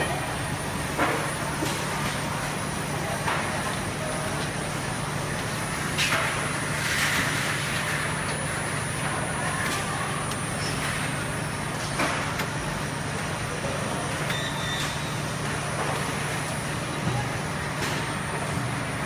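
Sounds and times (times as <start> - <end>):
oven machinery humming: 0.0 - 19.0.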